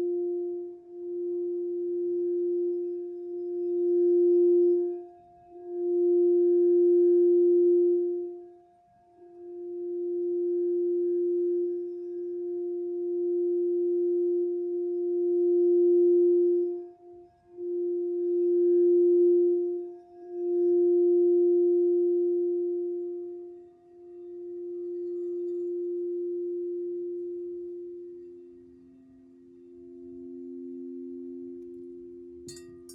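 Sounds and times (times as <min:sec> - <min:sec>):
singing bowl tone: 0:00.0 - 0:32.9.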